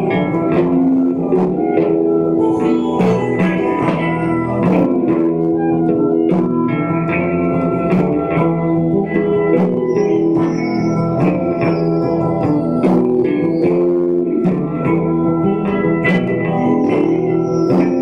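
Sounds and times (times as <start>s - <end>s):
bass guitar: 0.0s - 18.0s
drum and percussion hits: 0.0s - 18.0s
fuzz electric guitar: 0.0s - 18.0s.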